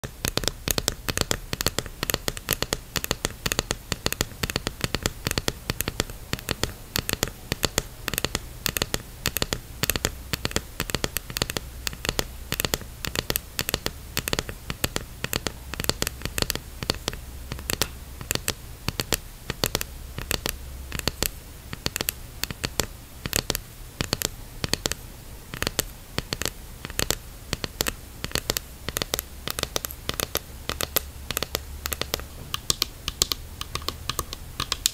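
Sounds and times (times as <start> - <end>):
fingernails tapping on diving mask: 0.0 - 34.9.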